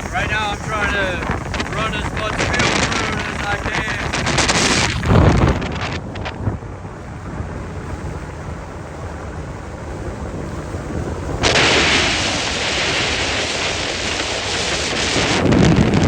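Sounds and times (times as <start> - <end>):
boat motor running: 0.0 - 16.0
wind rumbling on microphone: 0.0 - 16.0.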